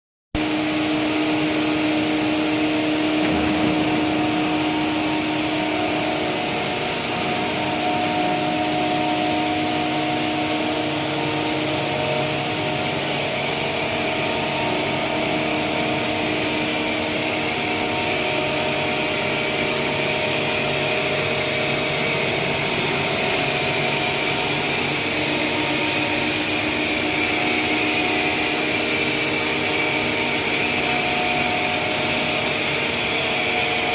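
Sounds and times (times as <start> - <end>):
extrusion machine hum: 0.4 - 33.9
high whine: 0.4 - 33.9.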